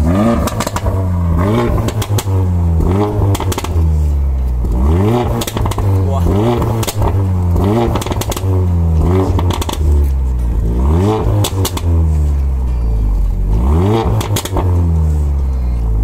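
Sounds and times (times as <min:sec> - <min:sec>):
exhaust crackling pops: 0:00.0 - 0:12.7, 0:13.4 - 0:15.0
car engine revving: 0:00.0 - 0:16.0.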